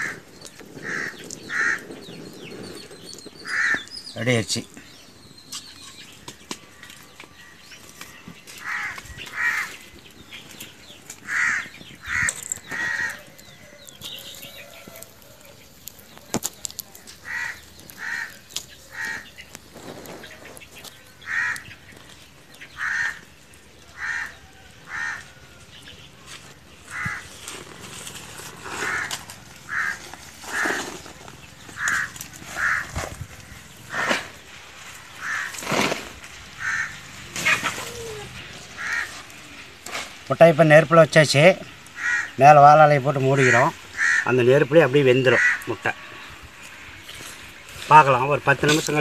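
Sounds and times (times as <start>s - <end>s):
bird calling: 0.0s - 39.6s, 41.6s - 49.0s.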